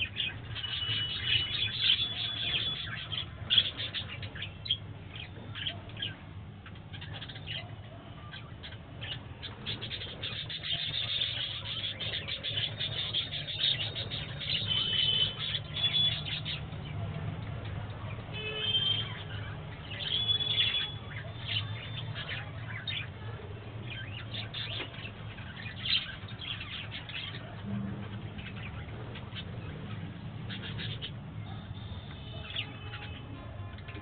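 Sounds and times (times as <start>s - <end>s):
budgerigars chirping and warbling: 0.0s - 34.0s.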